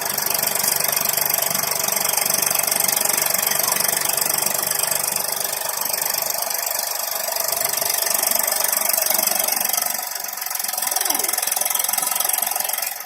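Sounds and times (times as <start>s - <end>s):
tractor diesel engine rattling: 0.0s - 13.0s.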